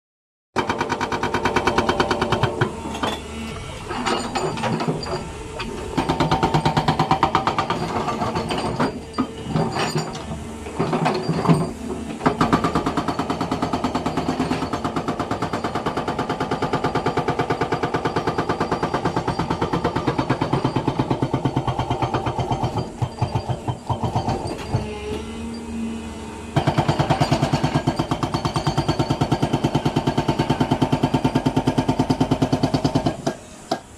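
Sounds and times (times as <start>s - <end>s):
hydraulic breaker hammering rock: 0.6s - 25.5s, 26.5s - 33.9s.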